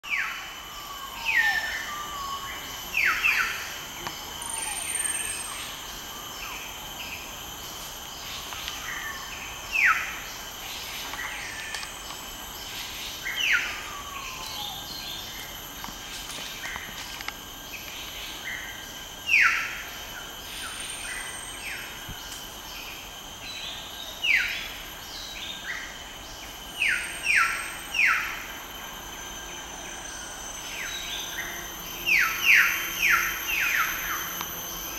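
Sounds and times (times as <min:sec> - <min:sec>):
insects droning: 0:00.0 - 0:34.9.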